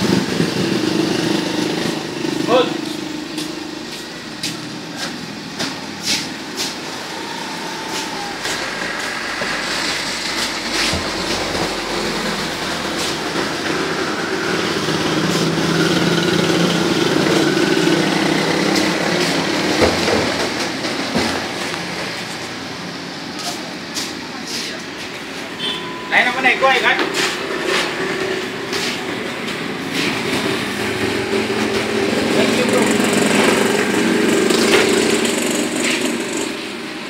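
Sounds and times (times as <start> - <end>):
motorcycles passing: 0.0 - 37.0.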